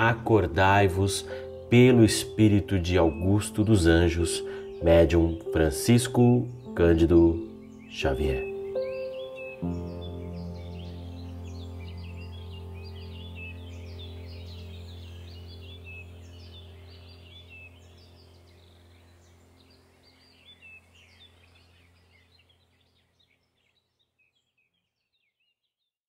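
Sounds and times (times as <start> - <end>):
low drone background music: 0.0 - 22.9
birds chirping: 0.0 - 25.8.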